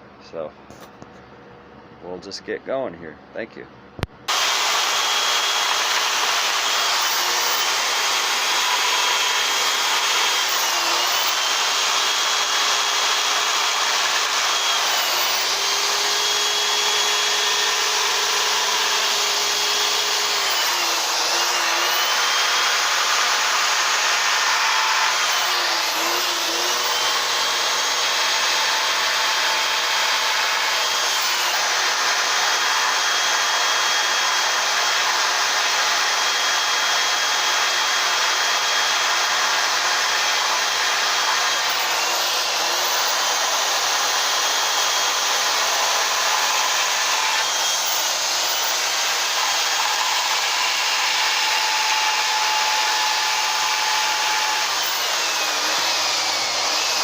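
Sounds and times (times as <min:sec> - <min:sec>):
chainsaw cutting wood: 0:04.2 - 0:57.0.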